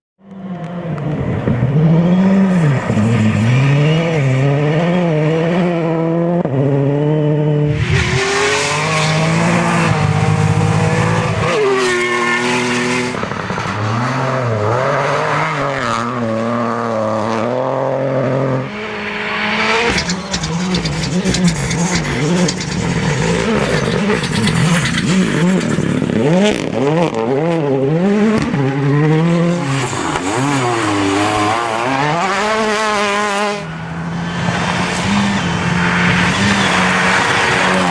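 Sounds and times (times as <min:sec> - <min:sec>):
rally car engines revving: 0:00.2 - 0:37.9.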